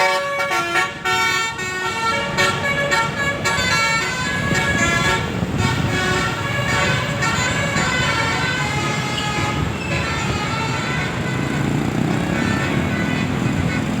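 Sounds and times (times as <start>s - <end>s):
bus horn playing a tune: 0.0s - 14.0s
low engine rumble: 2.0s - 14.0s.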